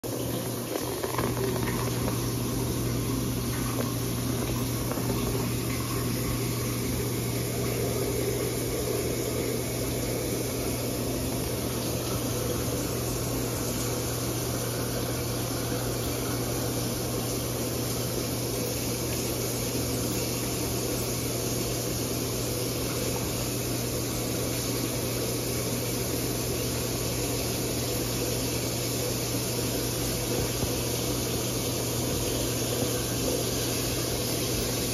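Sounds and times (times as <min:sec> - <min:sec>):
low machine hum: 0:00.0 - 0:34.9
even hiss: 0:00.1 - 0:34.9.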